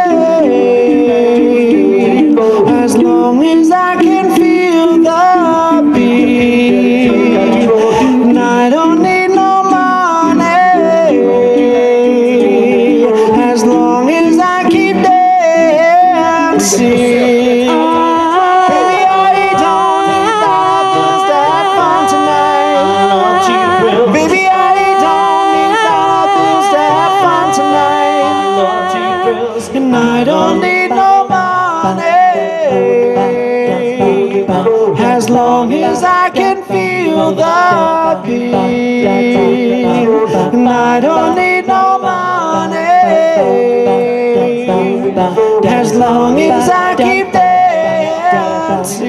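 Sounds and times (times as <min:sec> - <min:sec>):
male quartet singing a cappella: 0:00.0 - 0:49.0.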